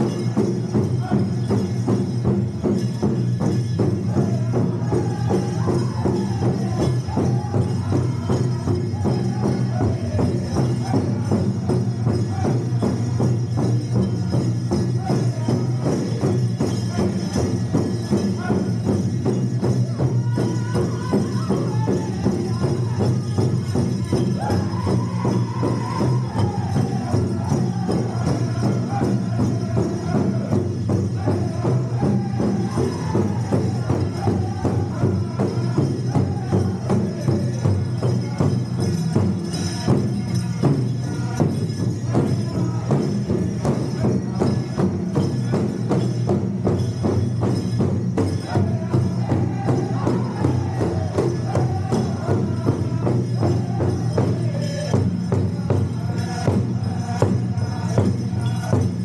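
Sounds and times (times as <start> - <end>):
big drum beat: 0.0 - 59.0
drum group singing: 0.0 - 59.0.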